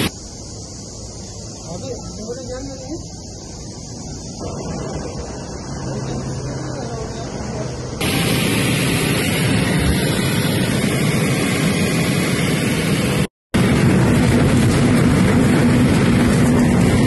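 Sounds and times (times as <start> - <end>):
aircraft engine and airflow noise: 0.0 - 17.0
steady low hum: 0.0 - 17.0.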